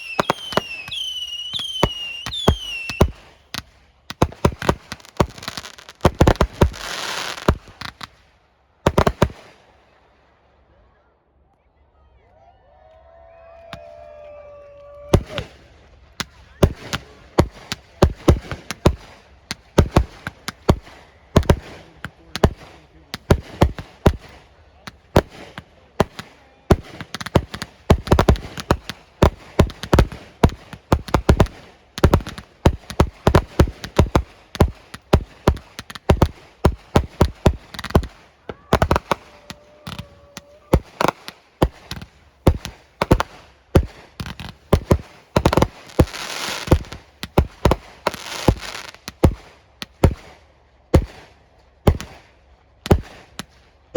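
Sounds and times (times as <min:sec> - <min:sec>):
fireworks bursting: 0:00.0 - 0:09.7, 0:15.0 - 0:53.7.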